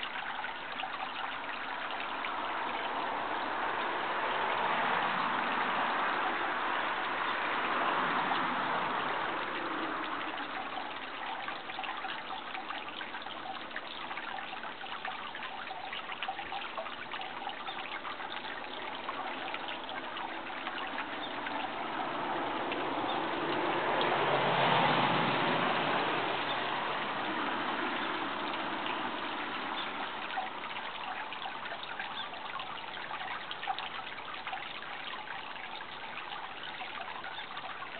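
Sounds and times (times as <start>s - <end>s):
running water trickling and splashing: 0.0s - 37.9s.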